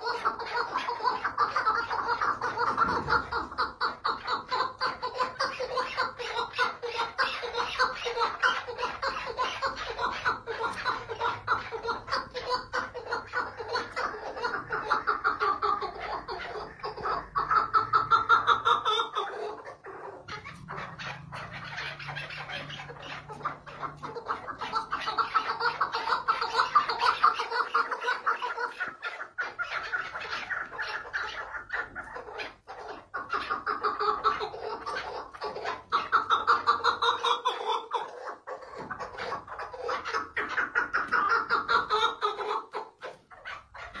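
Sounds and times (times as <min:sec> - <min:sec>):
partridge calling: 0:00.0 - 0:44.0.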